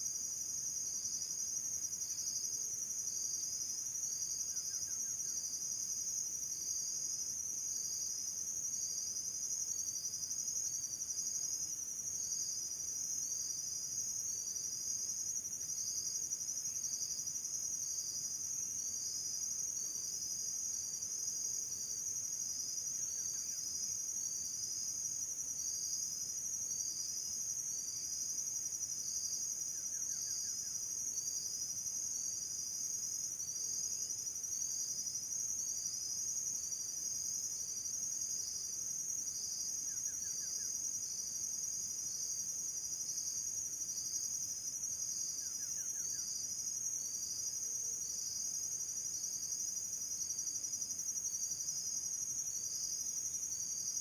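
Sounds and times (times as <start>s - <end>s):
insect chirp: 0.0s - 54.0s.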